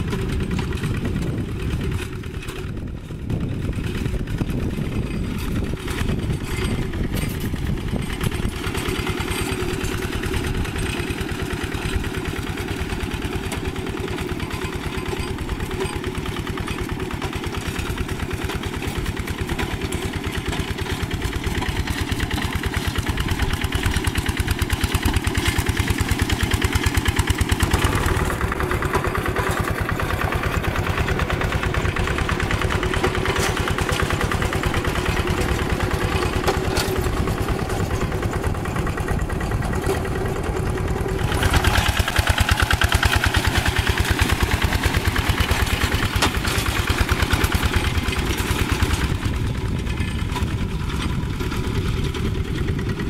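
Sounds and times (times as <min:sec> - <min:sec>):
diesel tractor engine chugging: 0:00.0 - 0:53.0.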